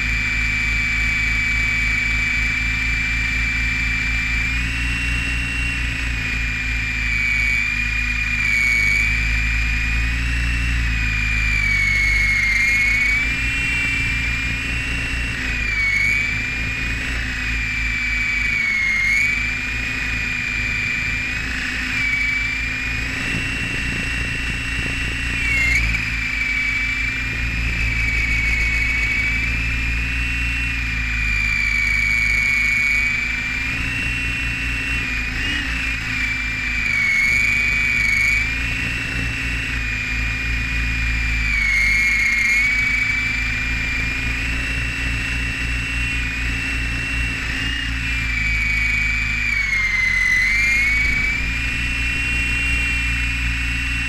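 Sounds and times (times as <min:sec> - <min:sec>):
model helicopter motor whine: 0:00.0 - 0:54.0.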